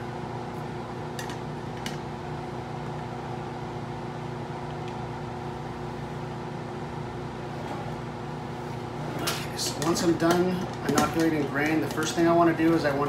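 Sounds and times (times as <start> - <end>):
blower humming: 0.0 - 13.0.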